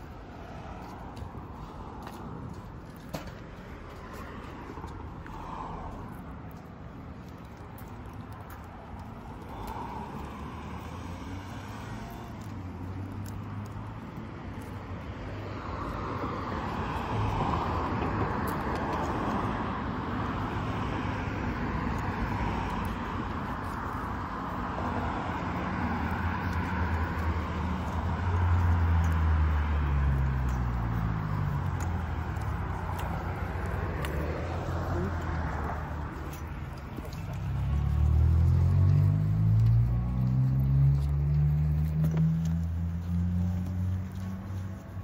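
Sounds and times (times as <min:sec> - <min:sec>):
street traffic: 0:00.0 - 0:45.0
car passing close: 0:09.0 - 0:45.0.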